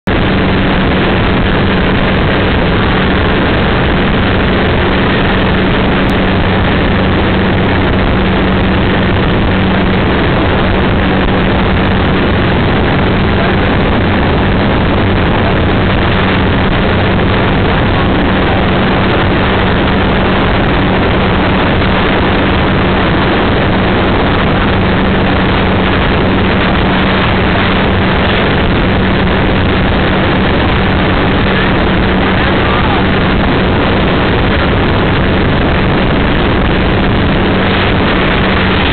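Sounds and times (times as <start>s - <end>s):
motorboat engine humming: 0.0s - 38.9s
rush of wind and water: 0.0s - 38.9s.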